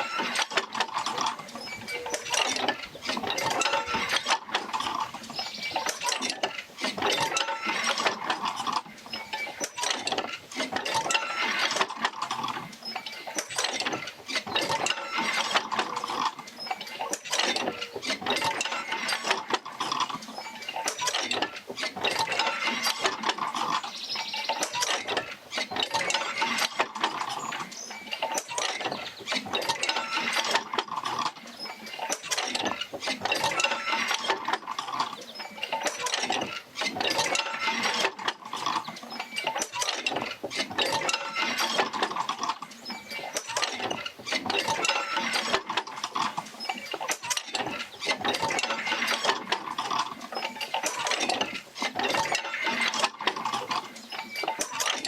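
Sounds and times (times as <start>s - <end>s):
machinery clicking and clanking: 0.0s - 55.0s.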